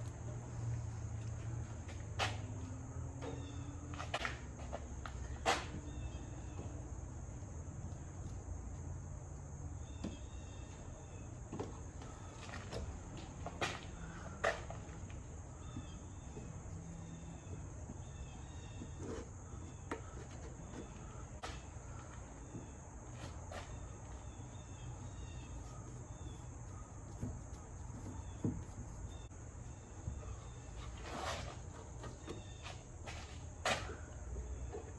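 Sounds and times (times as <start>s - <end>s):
insects chirping: 0.0s - 34.9s.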